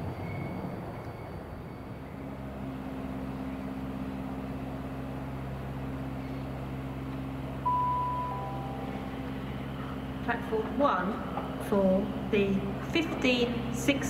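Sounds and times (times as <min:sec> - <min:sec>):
train low hum: 0:00.0 - 0:14.0.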